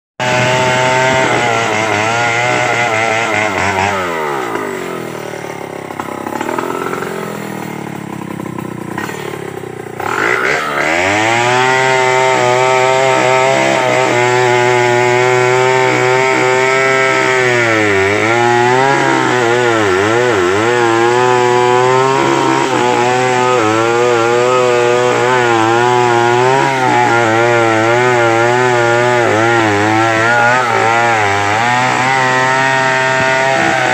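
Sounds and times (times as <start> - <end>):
chainsaw cutting wood: 0.2 - 33.9.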